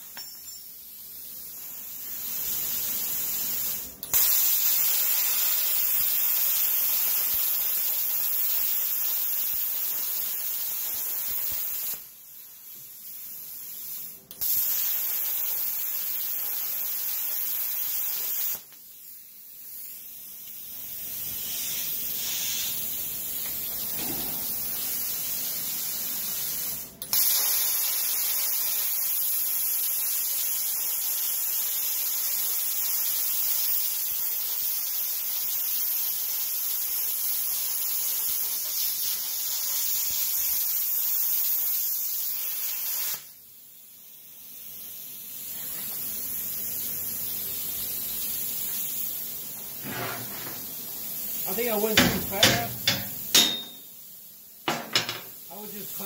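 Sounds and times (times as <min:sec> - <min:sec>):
plasma cutter hissing: 0:00.8 - 0:56.0.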